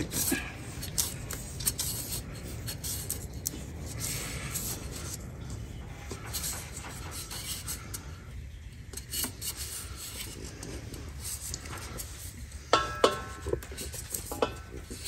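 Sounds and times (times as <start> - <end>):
hand rubbing on filter can: 0.0 - 15.0
steady low hum: 0.0 - 15.0.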